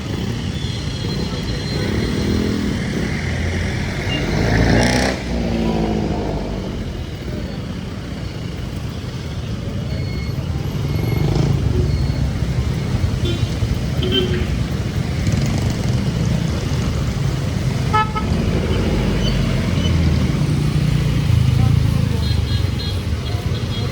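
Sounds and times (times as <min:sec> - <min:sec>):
vehicle engine in traffic: 0:00.0 - 0:23.9.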